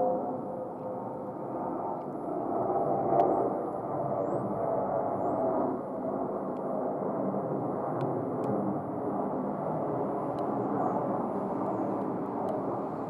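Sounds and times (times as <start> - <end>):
jet engine drone: 0.0 - 13.0.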